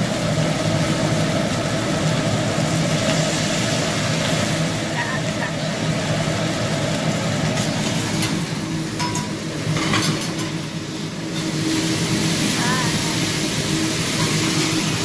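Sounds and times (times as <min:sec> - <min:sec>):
noodles sizzling on a griddle: 0:00.0 - 0:15.0
restaurant hum: 0:00.0 - 0:15.0.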